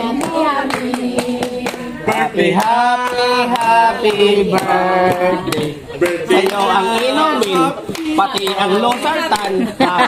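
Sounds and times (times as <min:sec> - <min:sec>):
hand clapping: 0:00.0 - 0:09.7
people singing: 0:00.0 - 0:10.0.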